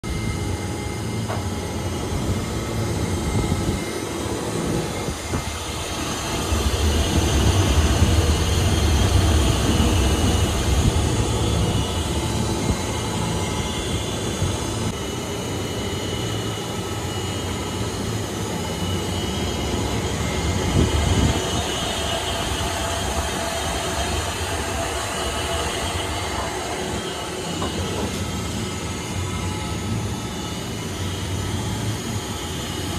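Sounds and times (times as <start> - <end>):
mixer grinder motor rumbling: 0.1 - 32.9.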